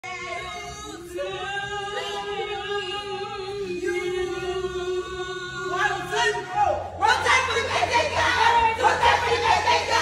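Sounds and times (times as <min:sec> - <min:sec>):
choir singing sustained notes: 0:00.3 - 0:10.0.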